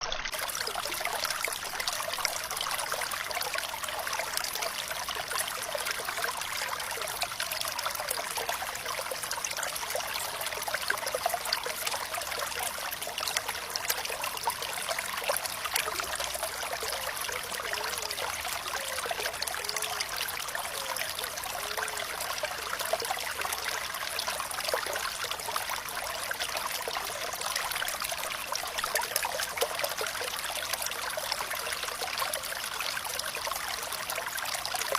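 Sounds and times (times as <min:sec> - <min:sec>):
stream water trickling: 0:00.0 - 0:34.9
water bubbling: 0:00.0 - 0:34.9.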